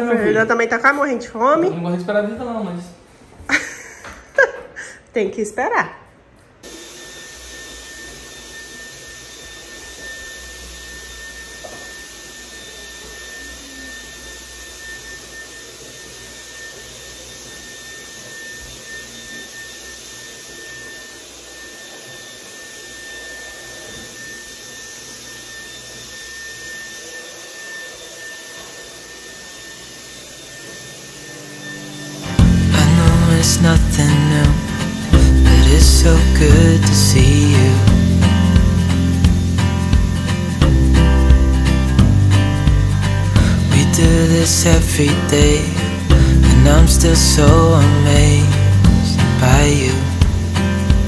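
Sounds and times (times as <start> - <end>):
high-pitched whine: 6.6 - 51.0
small fan motor whirring: 6.6 - 51.0.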